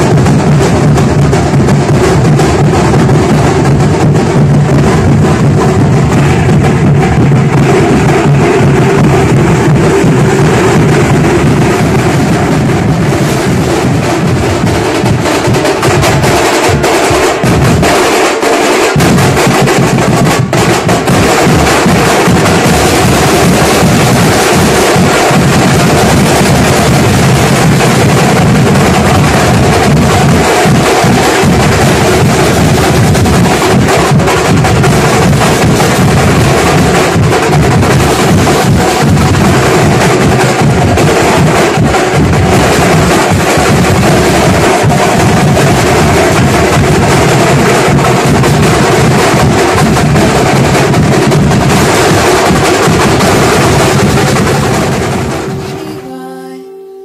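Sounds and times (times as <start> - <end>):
group of drummers playing: 0.0 - 57.0.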